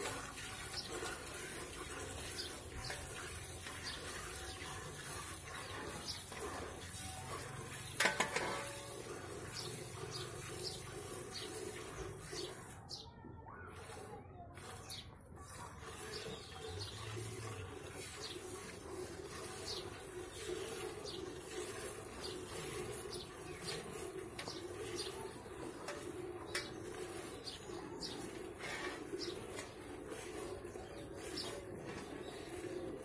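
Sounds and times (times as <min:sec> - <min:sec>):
milk squirting into steel bucket: 0:00.0 - 0:12.8, 0:13.6 - 0:33.0.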